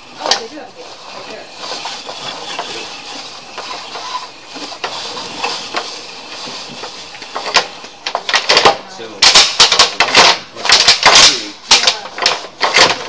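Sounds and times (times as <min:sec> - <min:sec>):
cable scraping in pipe: 0:00.0 - 0:13.0.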